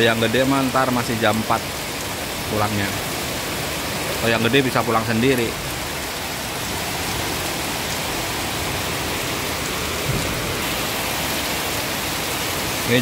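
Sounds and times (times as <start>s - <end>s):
heavy rain on pavement: 0.0s - 13.0s.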